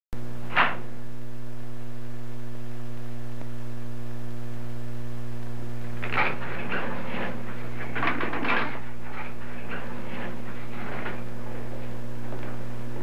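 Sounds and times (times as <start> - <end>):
low electrical hum: 0.2 - 13.0.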